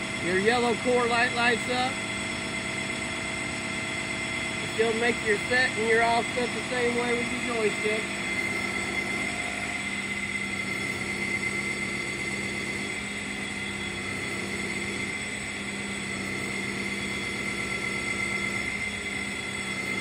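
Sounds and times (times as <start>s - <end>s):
constant high whine: 0.0s - 20.0s
hydraulic power unit humming: 0.0s - 20.0s.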